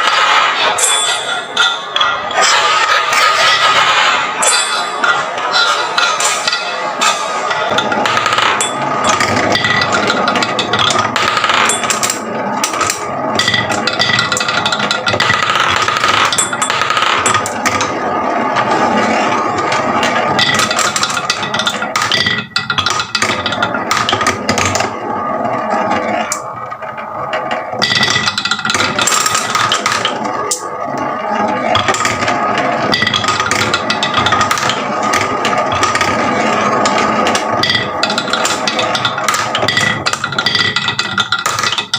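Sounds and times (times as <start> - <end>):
marbles rolling on wooden tracks: 0.0 - 41.9.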